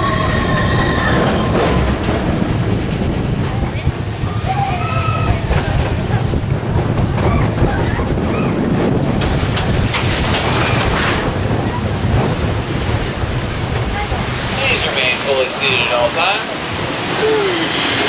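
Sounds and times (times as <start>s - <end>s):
roller coaster rumbling on track: 0.0s - 18.0s
wind on microphone: 0.0s - 18.0s.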